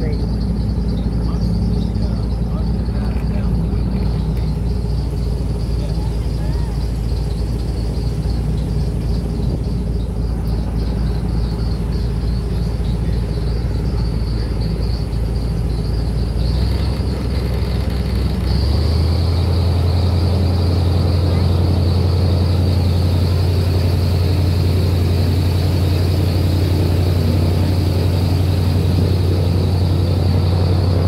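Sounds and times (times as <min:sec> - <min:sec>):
airboat engine and propeller drone: 0:00.0 - 0:31.0.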